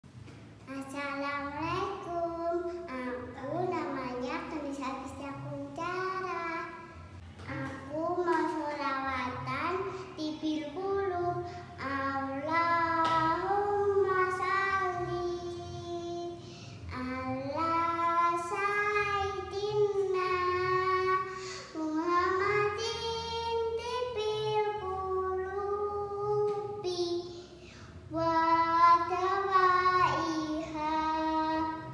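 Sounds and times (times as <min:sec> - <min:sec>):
girl singing devotional song: 0:00.6 - 0:31.9.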